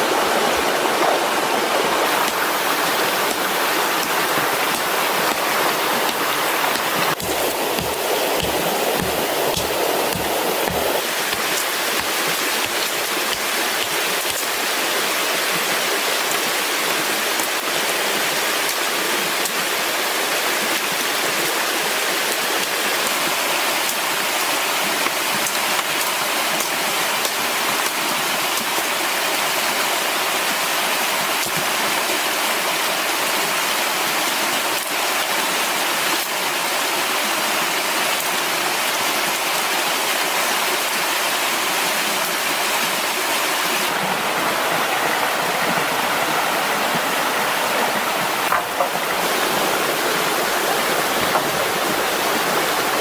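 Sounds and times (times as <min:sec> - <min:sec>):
mountain stream rushing over rocks: 0:00.0 - 0:53.0.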